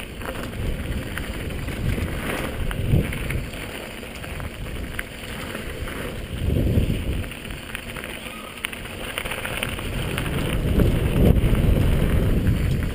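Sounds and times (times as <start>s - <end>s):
wind on microphone: 0.0s - 3.6s, 4.2s - 7.6s, 9.4s - 12.9s
bike clicks and rattles: 0.0s - 12.9s
bike tyres rolling on dirt: 0.0s - 12.9s
low thumps of bike hitting bumps: 0.0s - 12.9s.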